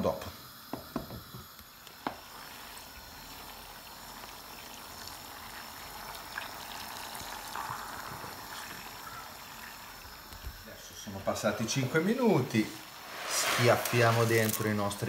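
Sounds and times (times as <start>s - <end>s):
butter bubbling and fizzing: 0.5s - 15.0s.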